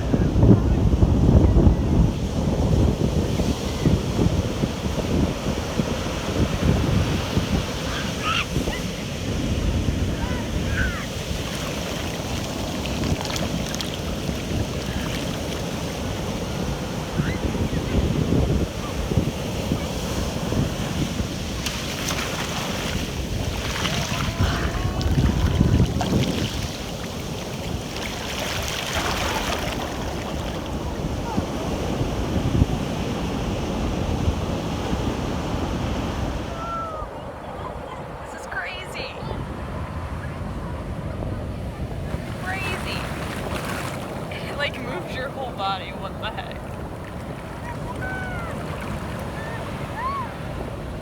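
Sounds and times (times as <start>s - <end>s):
ocean surf washing in: 0.0s - 51.0s
wind buffeting microphone: 0.0s - 51.0s.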